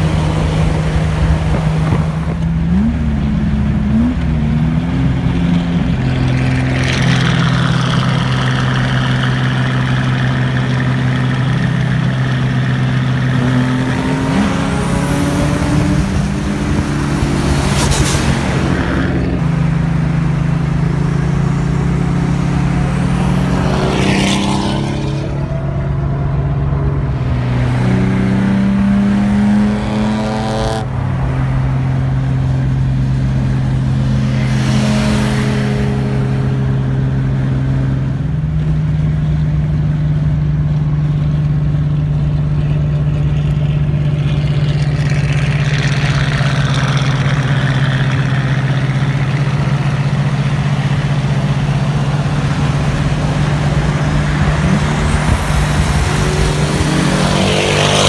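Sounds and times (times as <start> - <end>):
car accelerating: 0.0 - 58.0
car engines cruising: 0.0 - 58.0
road and wind noise: 0.0 - 58.0.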